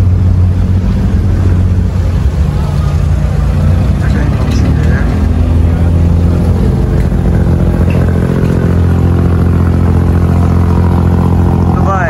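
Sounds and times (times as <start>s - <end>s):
boat diesel engine droning: 0.0s - 12.0s.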